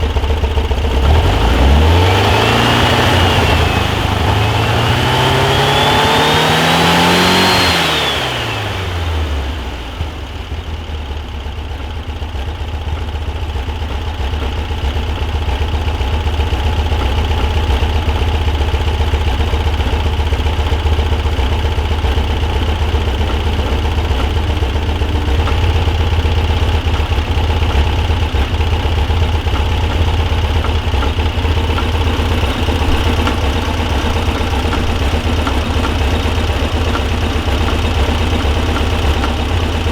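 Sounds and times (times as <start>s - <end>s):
engine revving then idling: 0.0s - 10.5s, 14.3s - 39.9s.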